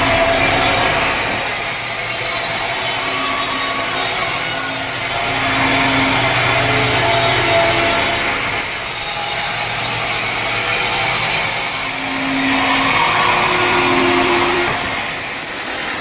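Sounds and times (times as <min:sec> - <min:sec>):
saw cutting through log: 0:00.0 - 0:15.9.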